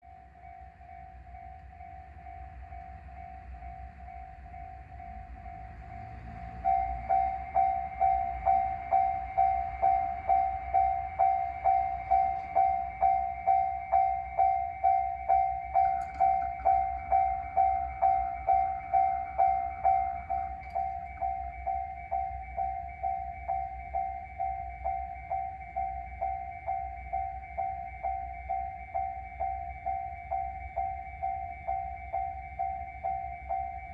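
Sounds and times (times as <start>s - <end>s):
level crossing warning bell: 0.0s - 33.9s
diesel railcar passing: 0.4s - 33.9s.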